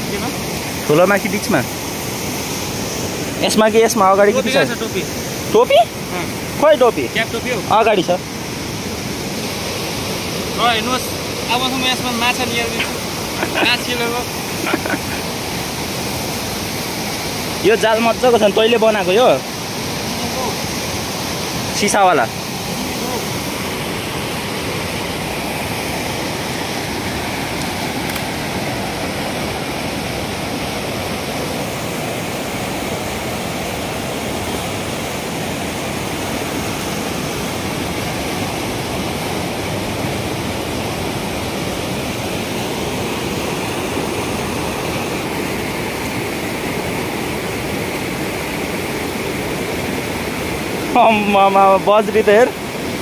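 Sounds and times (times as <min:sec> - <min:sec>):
river rapids rushing: 0:00.0 - 0:53.0.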